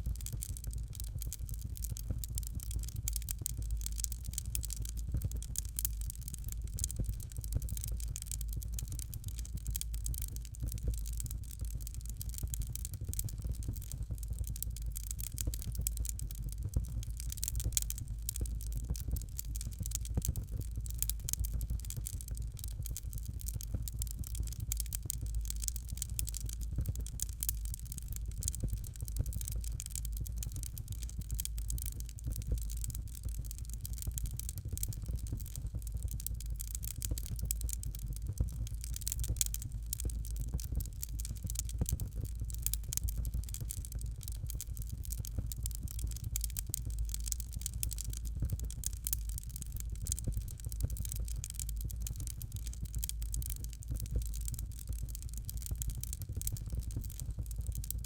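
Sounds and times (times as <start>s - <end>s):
fire crackling: 0.0s - 58.0s
low constant rumble: 0.0s - 58.0s.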